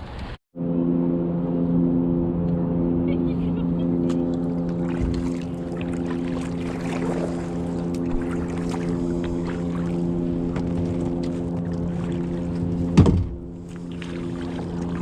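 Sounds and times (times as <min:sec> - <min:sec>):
steady motor hum: 0:00.6 - 0:15.0.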